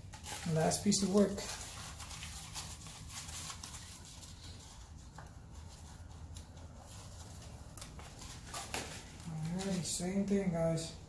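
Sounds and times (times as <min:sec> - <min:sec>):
film rustling: 0:00.0 - 0:10.8.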